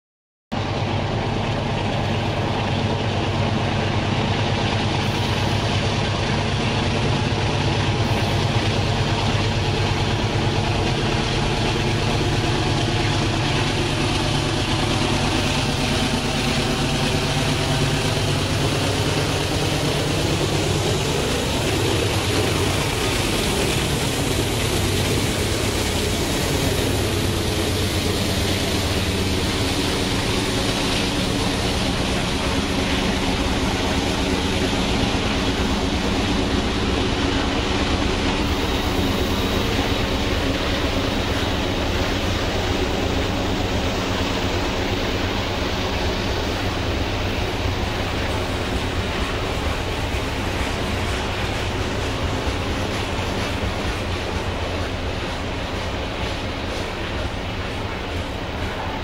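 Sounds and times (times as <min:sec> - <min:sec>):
diesel locomotive engines chugging: 0:00.5 - 0:59.0
freight cars rolling: 0:00.6 - 0:59.0.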